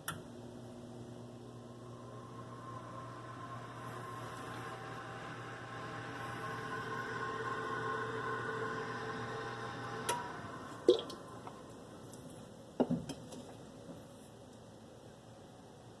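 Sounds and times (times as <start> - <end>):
oven fan humming: 0.0 - 13.9.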